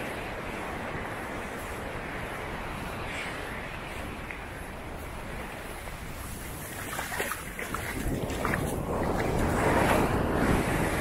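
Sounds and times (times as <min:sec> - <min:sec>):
ocean surf breaking on beach: 0:00.0 - 0:11.0
wind rumbling on microphone: 0:00.0 - 0:11.0.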